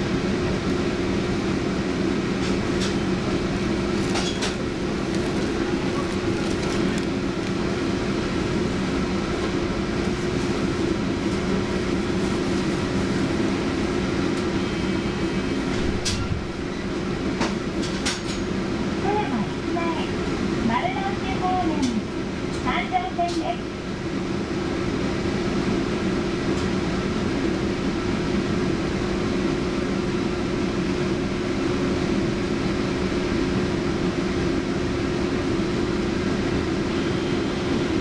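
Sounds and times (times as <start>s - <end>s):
streetcar motor hum: 0.0s - 38.0s.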